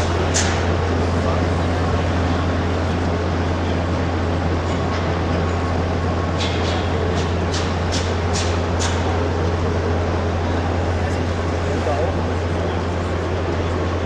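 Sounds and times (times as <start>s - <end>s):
hall background rumble: 0.0s - 14.0s.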